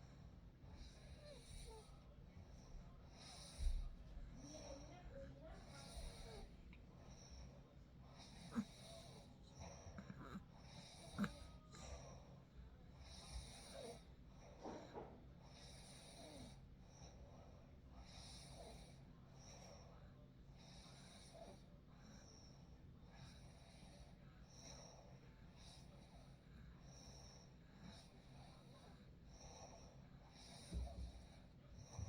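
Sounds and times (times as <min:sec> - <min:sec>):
person snoring softly: 0:00.7 - 0:05.0, 0:05.6 - 0:07.5, 0:08.1 - 0:12.3, 0:13.0 - 0:17.2, 0:18.0 - 0:20.0, 0:20.6 - 0:32.0.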